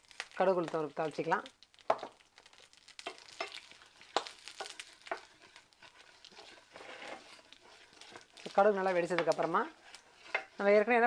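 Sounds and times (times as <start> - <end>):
seeds crackling and popping in oil: 0.0 - 11.0
wooden spatula stirring in pan: 0.0 - 11.0.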